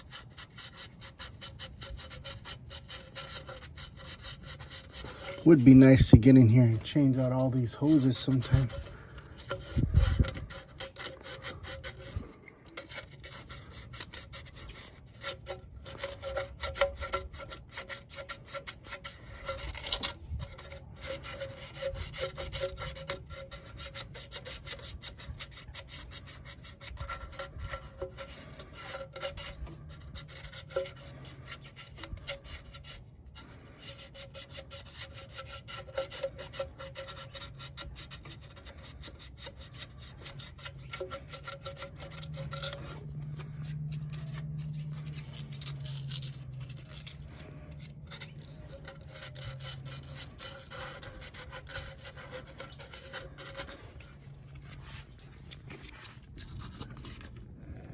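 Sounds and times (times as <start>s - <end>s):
hand sanding and rasping: 0.0s - 57.9s.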